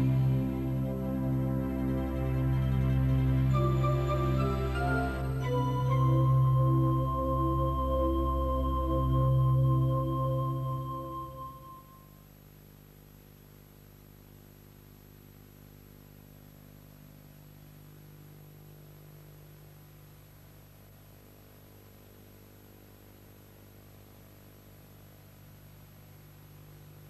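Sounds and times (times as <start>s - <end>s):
faint mains hum: 0.0s - 27.0s
tape hiss: 0.0s - 27.0s.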